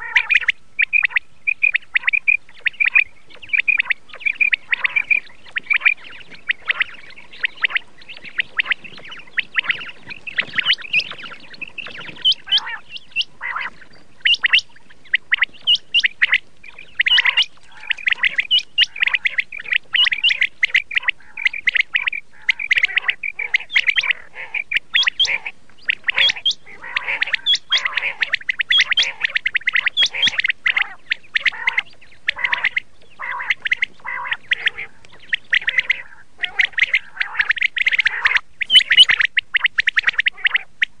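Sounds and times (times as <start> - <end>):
quail calling: 0.0 - 41.0.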